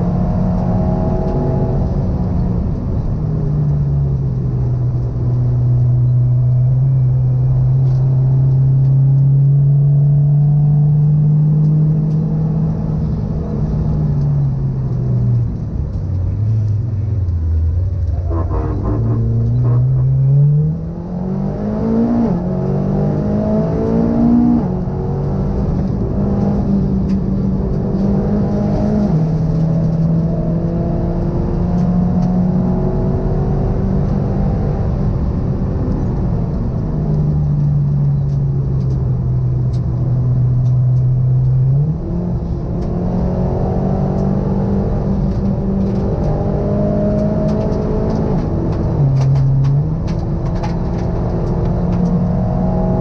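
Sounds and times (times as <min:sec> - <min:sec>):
turbocharged car engine: 0:00.0 - 0:53.0.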